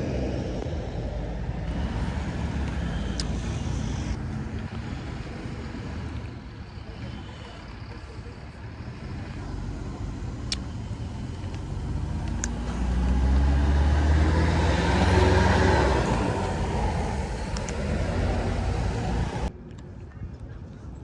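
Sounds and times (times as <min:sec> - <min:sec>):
vehicle driving past: 0:00.0 - 0:19.5.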